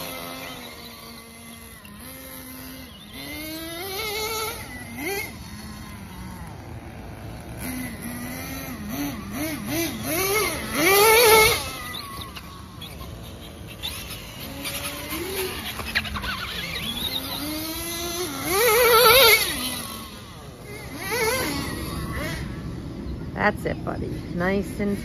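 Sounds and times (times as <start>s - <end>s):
model truck engine revving: 0.0s - 23.5s.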